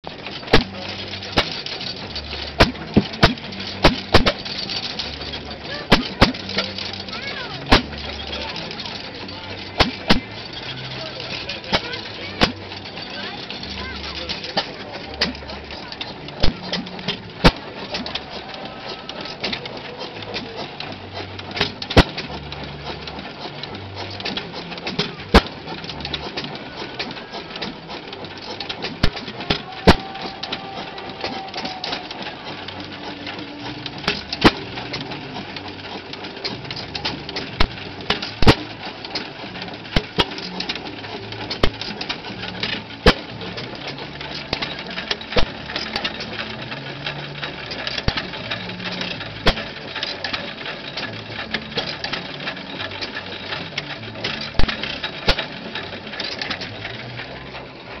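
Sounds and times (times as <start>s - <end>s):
machinery clattering: 0.0s - 58.0s.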